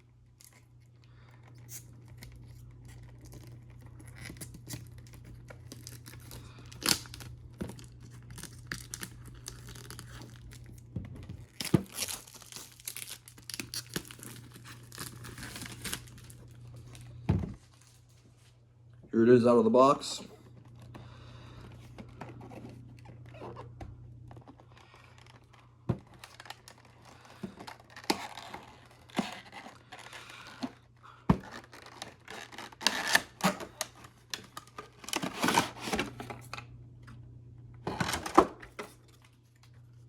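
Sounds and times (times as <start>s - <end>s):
packaging rustling and scraping: 0.4s - 18.6s, 20.6s - 36.7s.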